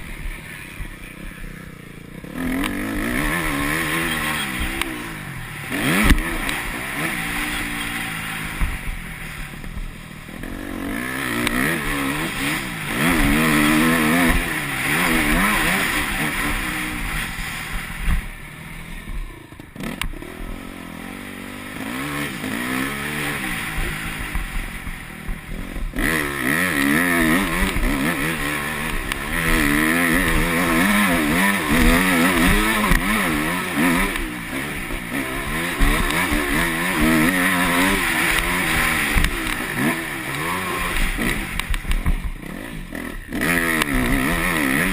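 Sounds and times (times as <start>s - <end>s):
motocross engine revving: 0.0s - 44.9s.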